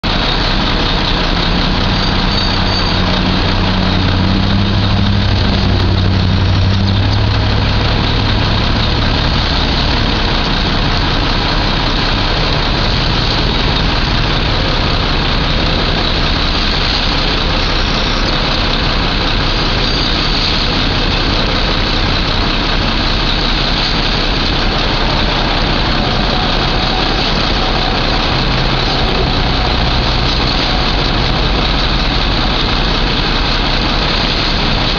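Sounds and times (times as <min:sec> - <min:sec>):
heavy vehicle engine running: 0:00.0 - 0:34.9
loud rushing noise: 0:00.0 - 0:34.9.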